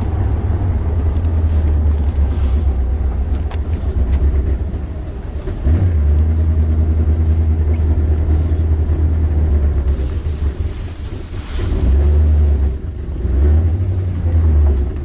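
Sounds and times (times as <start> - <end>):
car engine drone from inside: 0.0 - 15.0.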